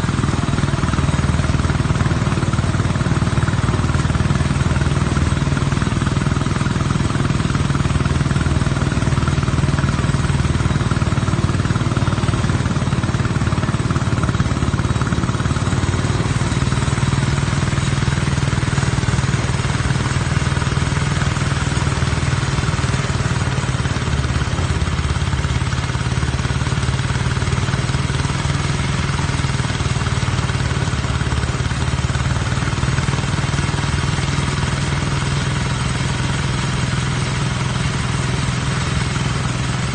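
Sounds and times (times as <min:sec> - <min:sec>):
harvesting machine engine droning: 0:00.0 - 0:39.9.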